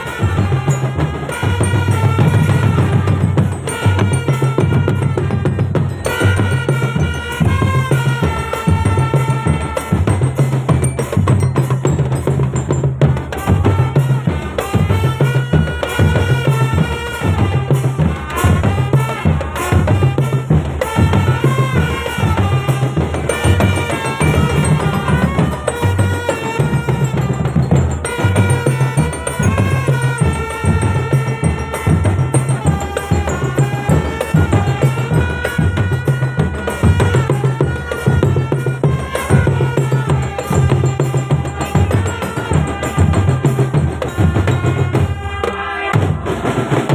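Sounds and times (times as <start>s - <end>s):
bass drums: 0.0s - 46.9s
marching band melody: 0.0s - 46.9s
snare drums: 0.0s - 46.9s.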